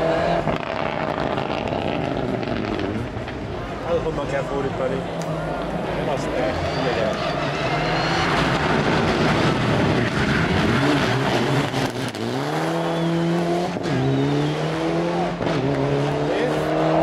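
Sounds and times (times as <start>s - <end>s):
rally car engine revving: 0.0s - 3.4s, 6.6s - 17.0s.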